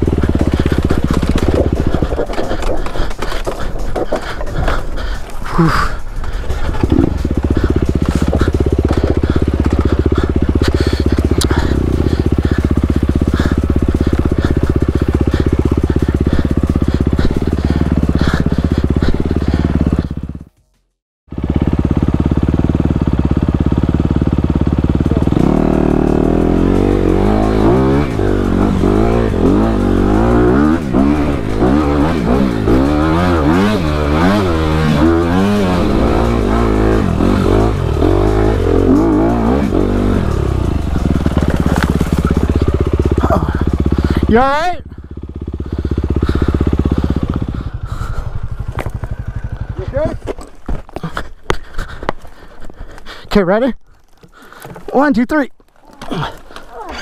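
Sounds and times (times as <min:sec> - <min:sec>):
motorcycle engine revving: 0:00.0 - 0:20.6, 0:21.3 - 0:52.7, 0:55.9 - 0:57.0.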